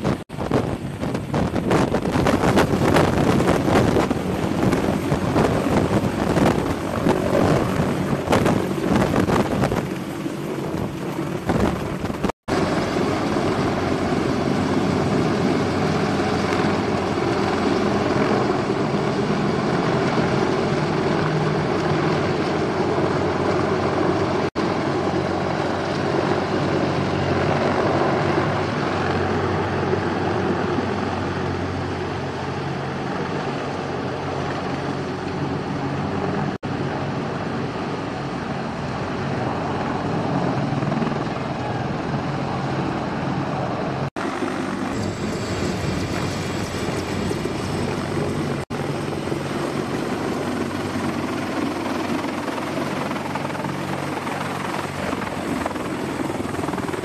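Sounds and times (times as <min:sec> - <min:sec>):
helicopter rotors and engines: 0:00.0 - 0:57.0
wind buffeting microphone: 0:00.0 - 0:57.0.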